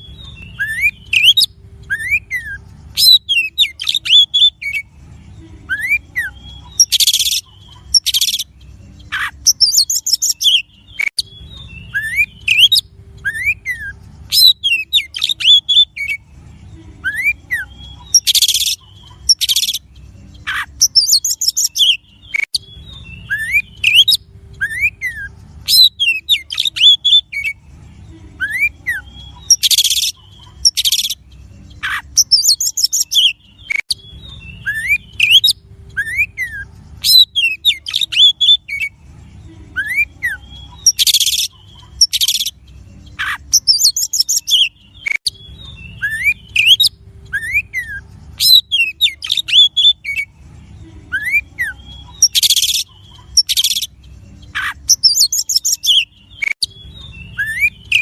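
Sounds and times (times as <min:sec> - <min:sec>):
bird singing whistles and trills: 0:00.0 - 0:04.9, 0:05.7 - 0:16.2, 0:17.0 - 0:27.6, 0:31.8 - 0:39.0, 0:39.8 - 0:50.3, 0:51.1 - 0:58.0.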